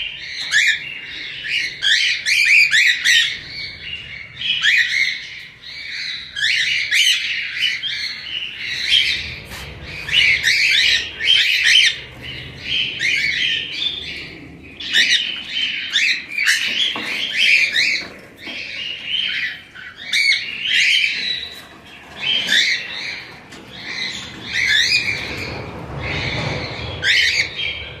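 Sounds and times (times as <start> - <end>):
parrots chirping and squawking: 0.0 - 28.0.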